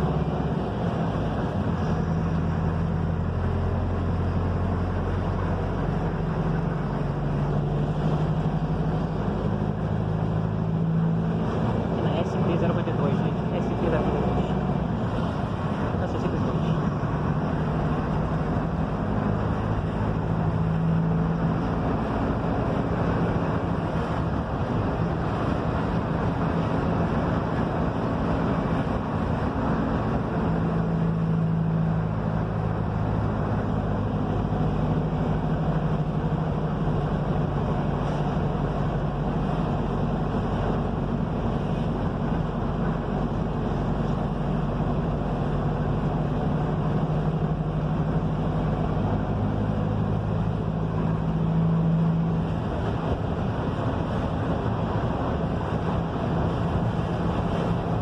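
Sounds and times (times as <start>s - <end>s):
bus engine running: 0.0s - 58.0s
road noise: 0.0s - 58.0s.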